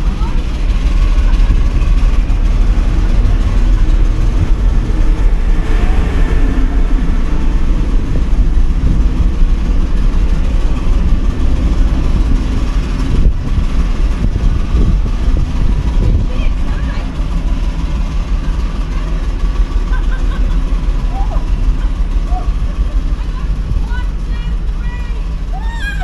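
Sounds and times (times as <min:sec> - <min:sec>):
loud low rumble: 0:00.0 - 0:26.0.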